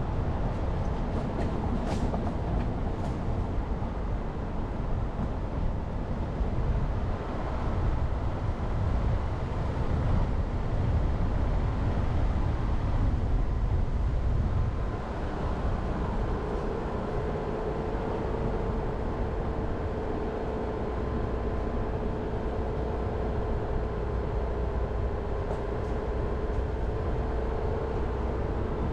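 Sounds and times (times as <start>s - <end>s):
tyres and engine rumble: 0.0s - 28.9s.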